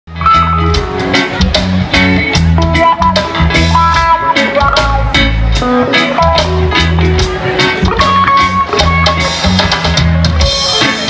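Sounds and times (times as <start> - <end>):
drum kit beat: 0.1 - 11.0
electric guitars: 0.1 - 11.0
keyboard: 0.1 - 11.0.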